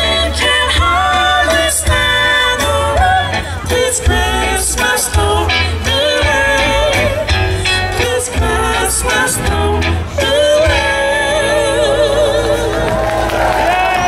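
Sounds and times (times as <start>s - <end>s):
woman singing into a microphone: 0.0s - 13.3s
acoustic guitar: 0.0s - 14.0s
drums: 0.0s - 14.0s
electric bass: 0.0s - 14.0s.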